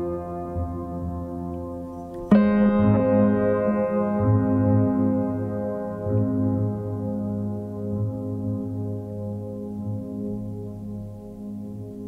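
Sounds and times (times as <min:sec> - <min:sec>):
soft ambient keyboard chords: 0:00.0 - 0:12.0.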